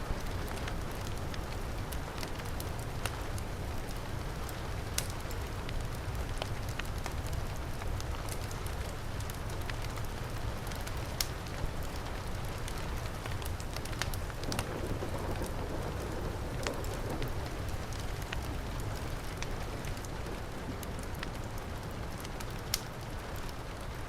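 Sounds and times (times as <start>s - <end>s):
heavy rain falling: 0.0s - 24.0s
wood fire crackling: 0.0s - 24.0s.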